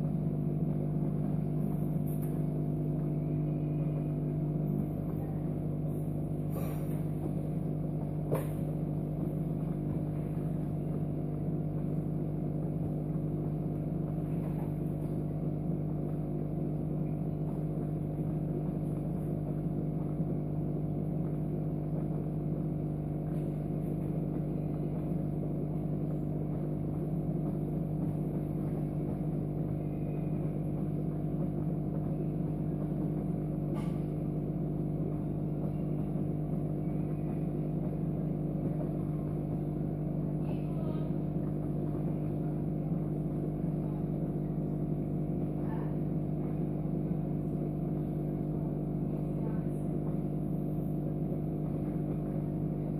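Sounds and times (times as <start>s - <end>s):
electrical machine hum: 0.0s - 52.9s.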